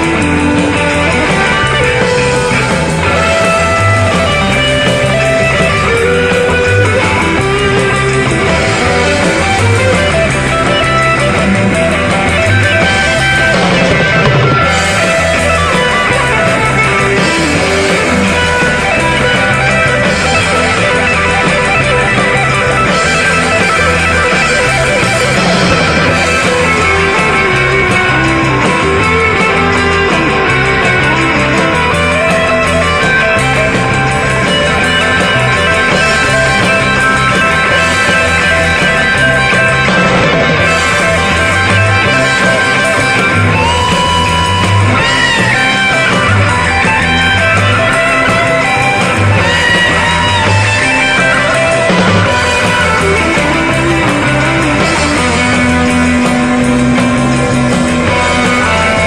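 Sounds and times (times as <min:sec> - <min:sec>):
instrumental guitar music: 0:00.0 - 0:59.0.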